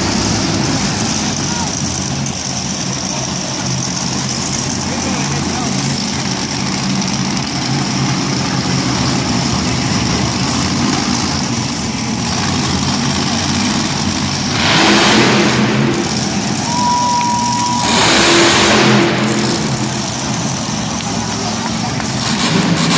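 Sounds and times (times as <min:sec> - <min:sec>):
truck engine revving: 0:00.0 - 0:22.9.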